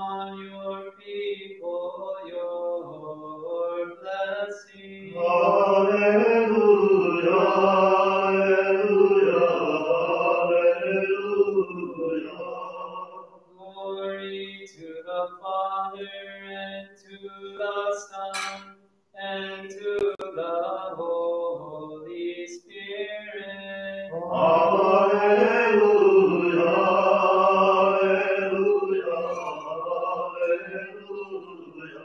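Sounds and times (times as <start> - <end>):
liturgical chant: 0.0 - 32.0.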